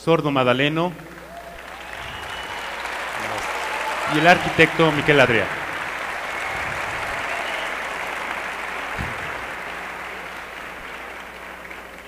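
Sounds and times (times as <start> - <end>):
audience applauding: 1.0 - 12.0.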